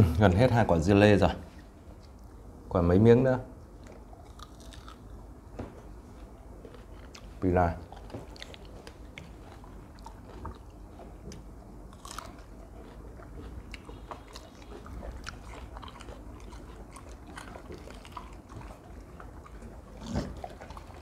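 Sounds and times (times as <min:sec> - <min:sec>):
animals chewing melon crunches: 0:03.7 - 0:21.0.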